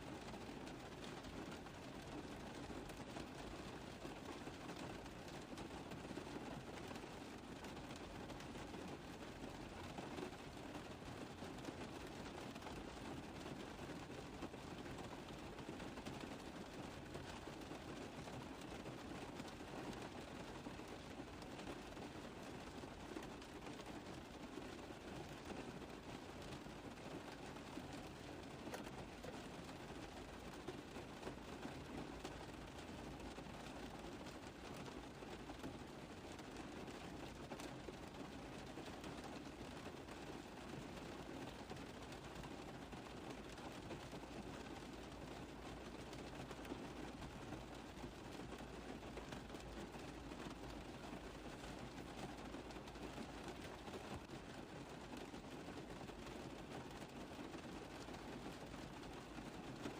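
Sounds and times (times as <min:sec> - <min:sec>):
rain pattering on a car roof: 0:00.0 - 0:59.9.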